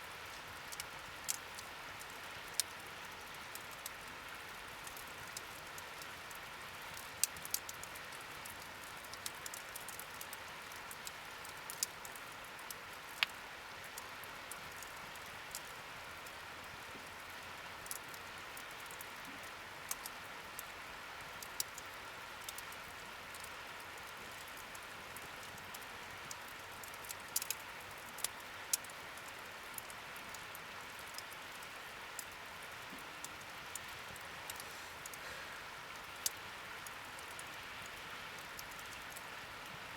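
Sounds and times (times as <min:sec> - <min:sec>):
wood fire crackling: 0:00.2 - 0:39.9.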